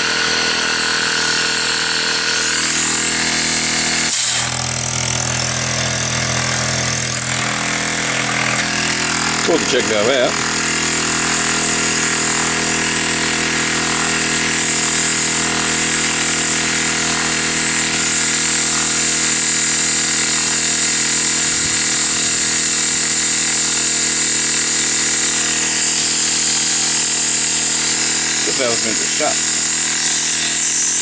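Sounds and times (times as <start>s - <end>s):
air compressor running: 0.0s - 31.0s.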